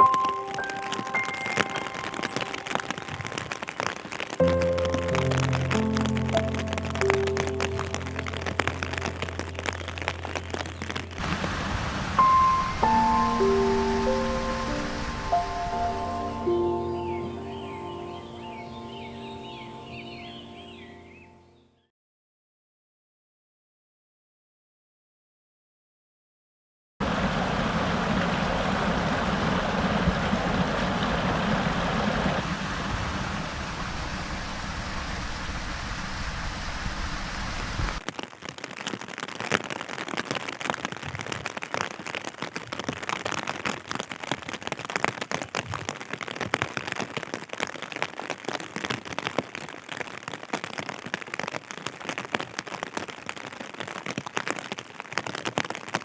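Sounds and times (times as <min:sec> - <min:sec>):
rain falling: 0:00.0 - 0:21.1, 0:27.0 - 0:56.0.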